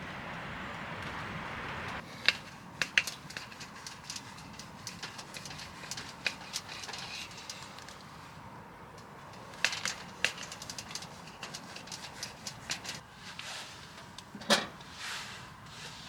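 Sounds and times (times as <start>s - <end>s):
burning wood crackling: 0.0s - 16.0s.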